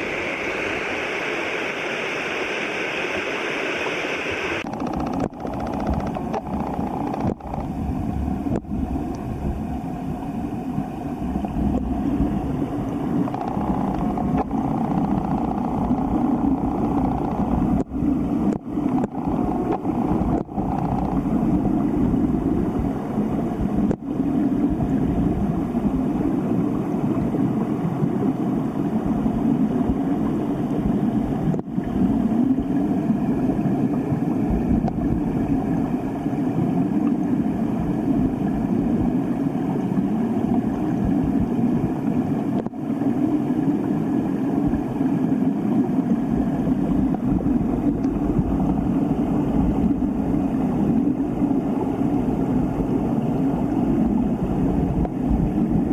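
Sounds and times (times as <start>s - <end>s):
mountain stream over rocks: 0.0s - 55.9s.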